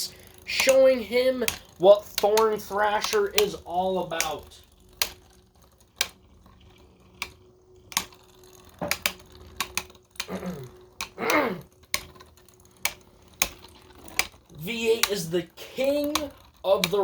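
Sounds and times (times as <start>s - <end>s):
spinning tops clacking: 0.0s - 17.0s
whirs falling in pitch: 0.0s - 17.0s.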